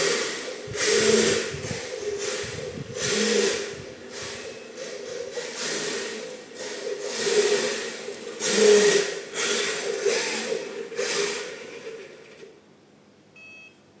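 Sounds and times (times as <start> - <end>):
high motor whine: 0.0 - 12.4.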